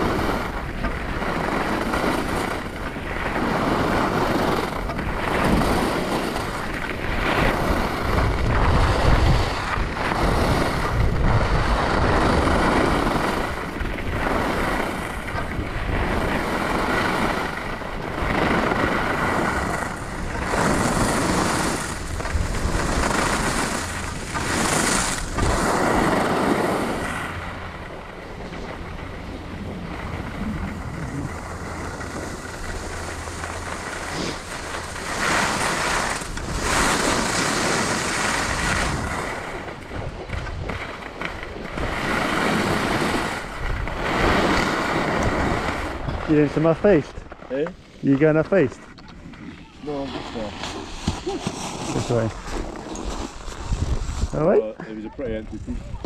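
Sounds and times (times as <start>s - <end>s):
wind noise on microphone: 0.0s - 47.4s, 48.9s - 54.6s, 55.2s - 56.0s
skis scraping on snow: 0.0s - 56.0s.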